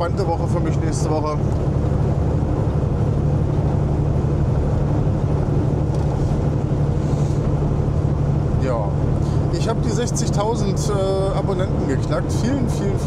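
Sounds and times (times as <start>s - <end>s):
road noise: 0.0s - 13.0s
truck diesel engine drone: 0.0s - 13.0s.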